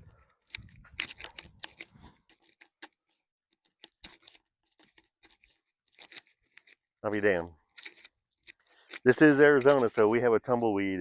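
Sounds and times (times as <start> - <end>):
dry crackling and scratching clicks: 0.4 - 6.8, 7.7 - 10.4.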